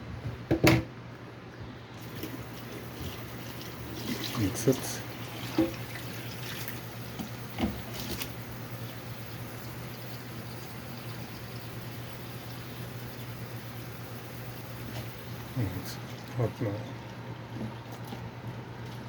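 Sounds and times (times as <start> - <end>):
water running from faucet: 2.0 - 18.2.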